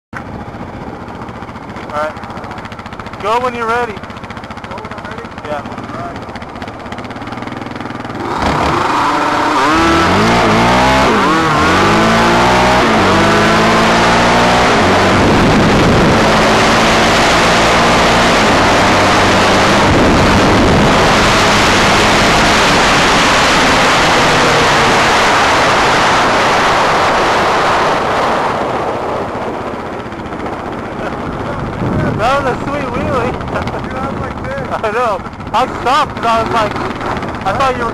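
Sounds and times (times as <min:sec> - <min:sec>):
quad engine at full throttle: 0:00.2 - 0:37.9
wind rush on microphone: 0:05.4 - 0:37.9.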